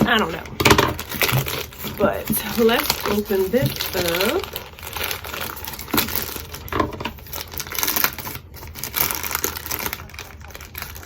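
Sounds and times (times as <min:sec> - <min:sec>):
packaging crinkling and rustling: 0:00.0 - 0:11.0
packaging tearing: 0:00.0 - 0:11.0.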